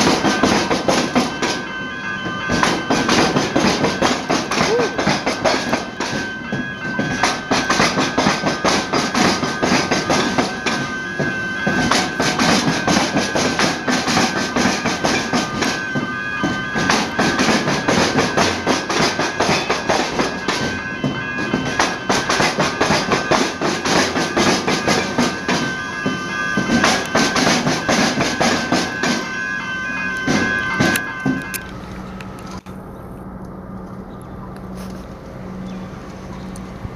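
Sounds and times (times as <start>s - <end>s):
crossing warning bells ringing: 0.0s - 36.9s
train clattering over rails: 0.0s - 36.9s.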